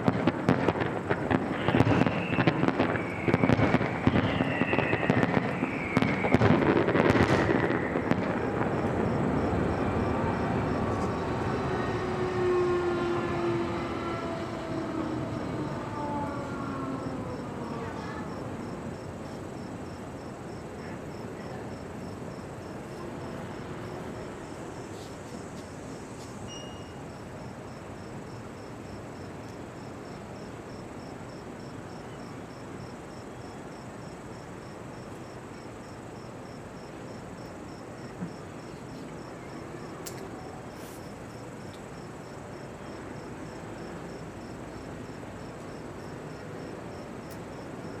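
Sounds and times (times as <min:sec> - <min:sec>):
cricket chirping: 0:00.8 - 0:48.0.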